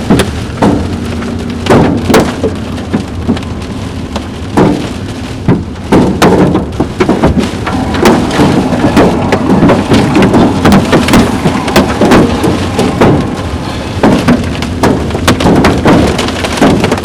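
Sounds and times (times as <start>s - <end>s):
hailstones knocking on vehicle: 0.0s - 17.0s
roar of hail and rain: 0.0s - 17.0s.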